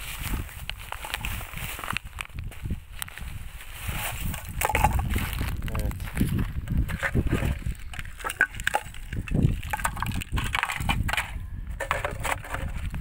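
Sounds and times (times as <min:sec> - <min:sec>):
debris crunching and rustling: 0:00.0 - 0:13.0.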